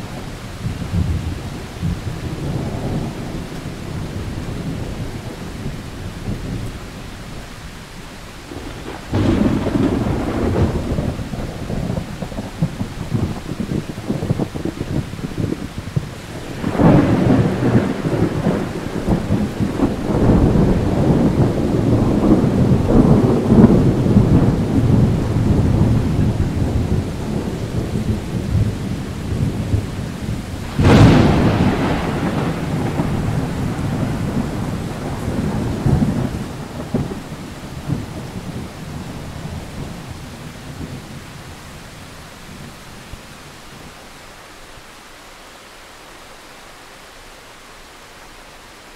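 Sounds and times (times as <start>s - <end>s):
thunder rumbling: 0.0s - 44.0s
steady rain: 0.0s - 48.9s.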